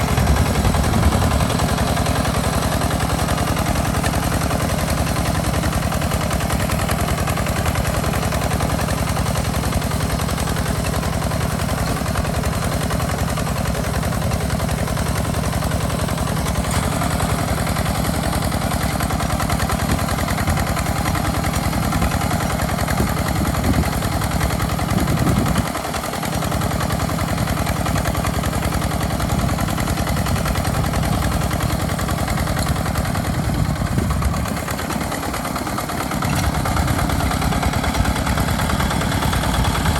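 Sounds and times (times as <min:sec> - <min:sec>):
tractor engine knocking chug: 0:00.0 - 0:39.9.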